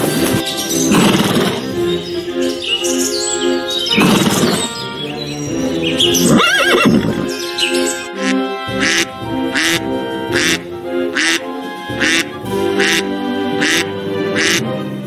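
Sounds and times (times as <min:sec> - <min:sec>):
background music with sustained notes: 0:00.0 - 0:15.0
duck quacking: 0:00.8 - 0:14.9.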